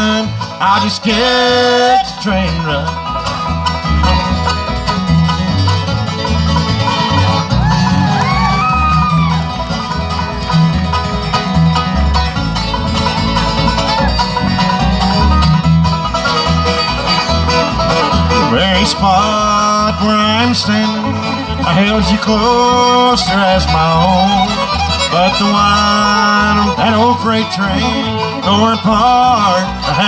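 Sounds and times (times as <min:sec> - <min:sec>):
banjo: 0:00.0 - 0:30.0
bluegrass band playing: 0:00.0 - 0:30.0
guitar: 0:00.0 - 0:30.0
sliding lead melody: 0:00.0 - 0:30.0
bass pulse: 0:02.8 - 0:28.2.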